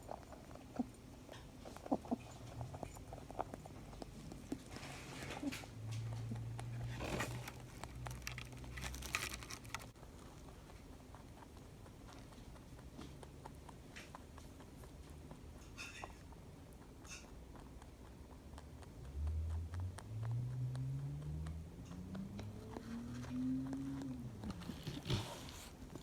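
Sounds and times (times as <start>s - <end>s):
rabbit crunching food pellets: 0.0s - 26.0s.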